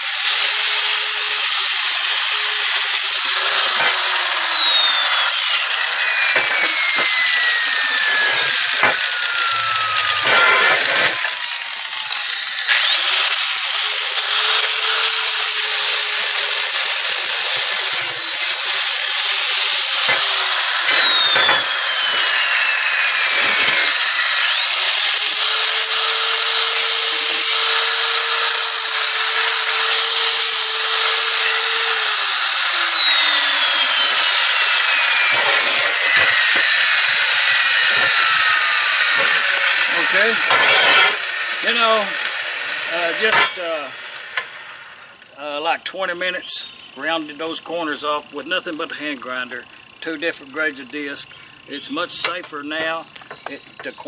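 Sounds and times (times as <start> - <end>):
grinding disc rasping on steel: 0.0 - 45.2
angle grinder motor whining: 0.0 - 54.0.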